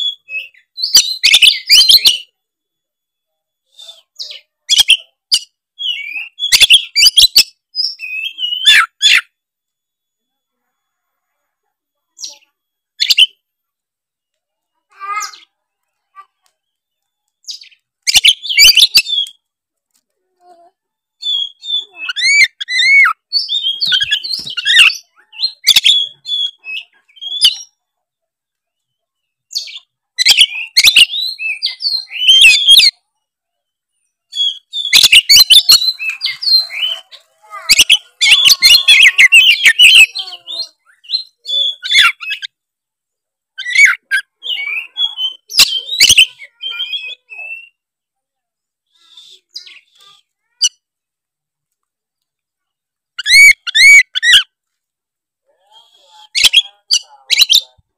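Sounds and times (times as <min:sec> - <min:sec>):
songbird singing: 0:00.0 - 0:54.8.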